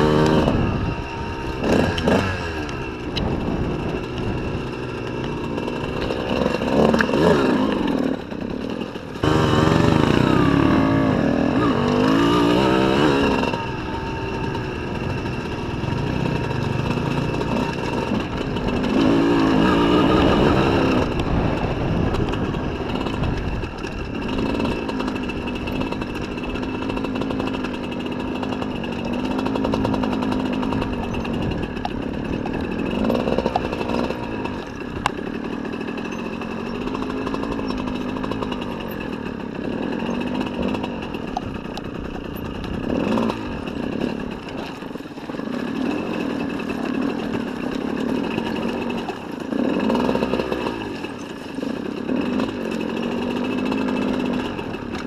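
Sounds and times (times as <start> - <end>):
two-stroke motorcycle engine revving: 0.0 - 55.0.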